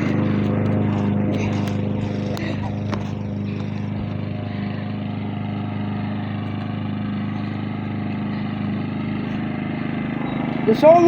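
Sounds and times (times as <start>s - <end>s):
lawn mower engine droning: 0.0s - 11.0s.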